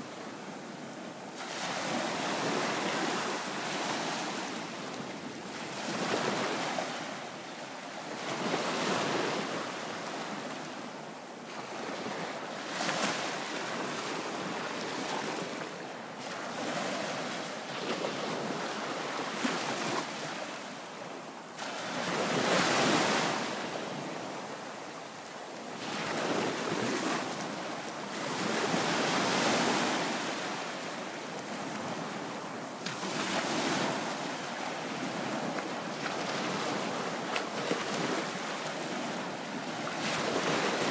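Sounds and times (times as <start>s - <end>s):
small waves breaking on beach: 0.0s - 40.9s.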